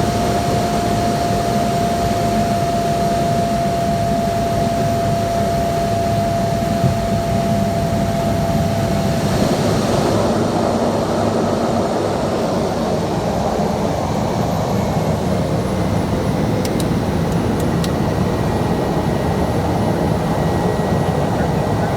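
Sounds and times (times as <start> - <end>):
turboprop engine running: 0.0 - 21.9.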